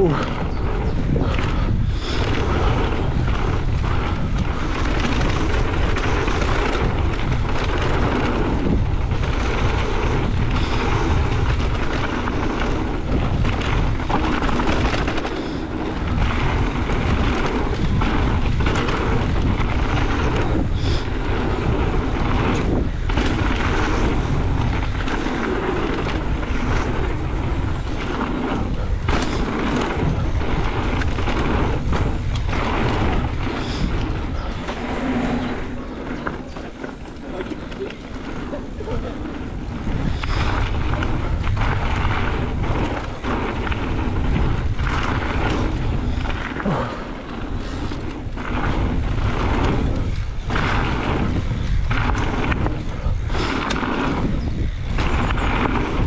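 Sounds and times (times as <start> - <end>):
bike tyre noise on trail: 0.0 - 56.0
wind buffeting microphone: 0.0 - 56.0.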